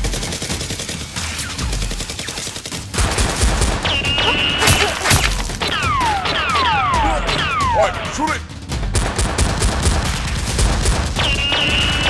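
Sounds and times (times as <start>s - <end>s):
rapid automatic gunfire: 0.0s - 7.6s, 8.9s - 12.0s.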